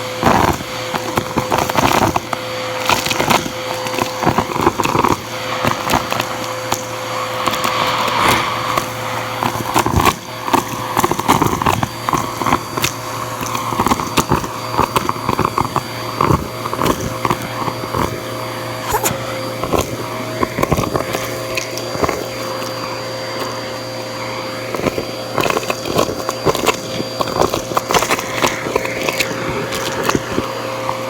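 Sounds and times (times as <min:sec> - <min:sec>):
debris crackling through hose: 0:00.0 - 0:31.0
vacuum cleaner motor hum: 0:00.0 - 0:31.0.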